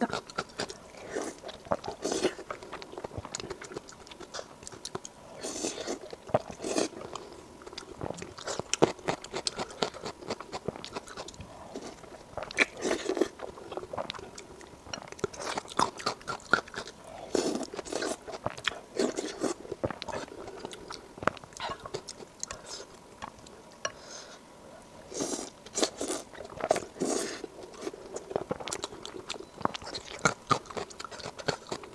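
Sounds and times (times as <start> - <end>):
person chewing crunchy food: 0.0 - 24.1, 25.0 - 31.9.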